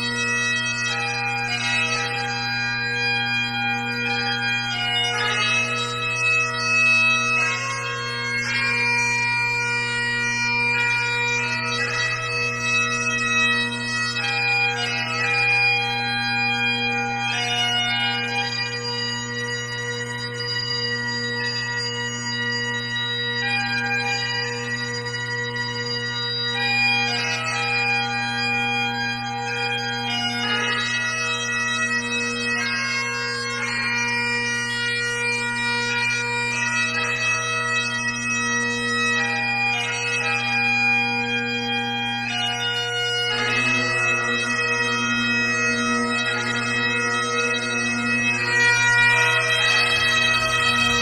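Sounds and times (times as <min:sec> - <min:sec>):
bagpipes playing slow melody: 0:00.0 - 0:51.0.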